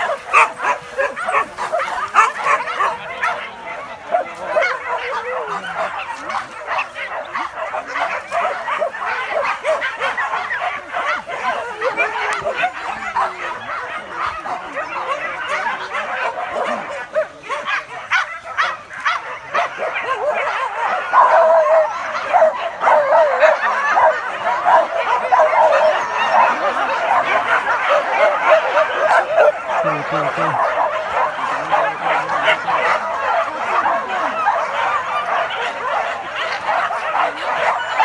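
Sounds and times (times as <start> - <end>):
hunting dogs yelping and baying: 0.0 - 38.0.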